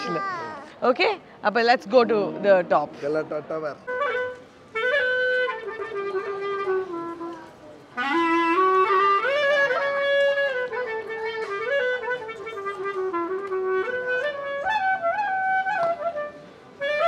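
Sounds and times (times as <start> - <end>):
solo clarinet melody: 1.8 - 17.0.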